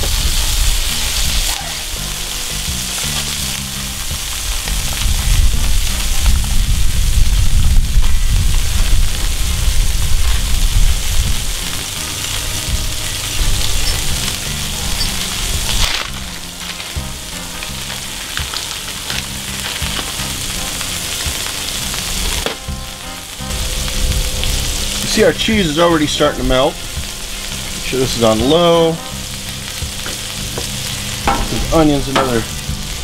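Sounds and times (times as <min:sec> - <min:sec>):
low rumble: 0:00.0 - 0:33.0
patties sizzling on griddle: 0:00.0 - 0:33.0.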